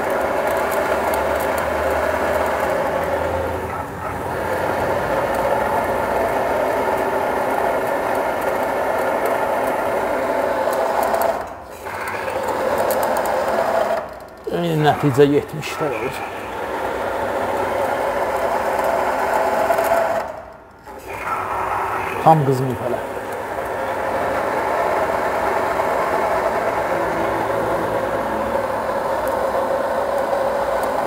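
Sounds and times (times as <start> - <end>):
machine whine with grinding edge: 0.0 - 31.0.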